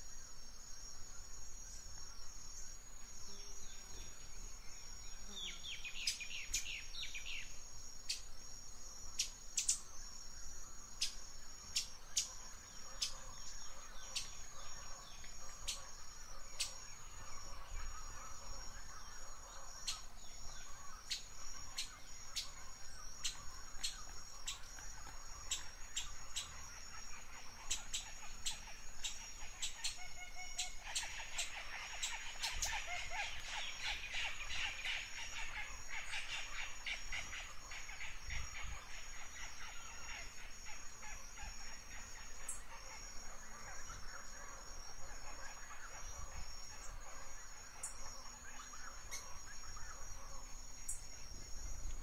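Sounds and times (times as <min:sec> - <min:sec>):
forest birds calling: 0:00.0 - 0:52.0.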